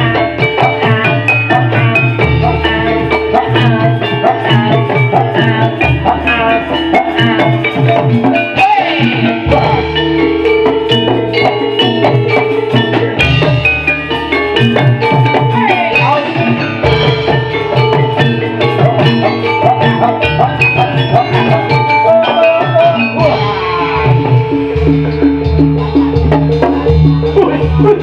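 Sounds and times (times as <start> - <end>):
gamelan drums and metal instruments: 0.0 - 28.0.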